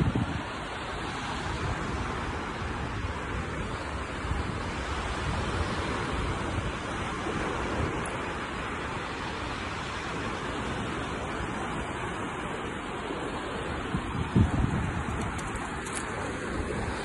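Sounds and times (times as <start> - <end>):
sea surf washing onto beach: 0.0 - 17.0
wind rumbling on microphone: 0.0 - 17.0.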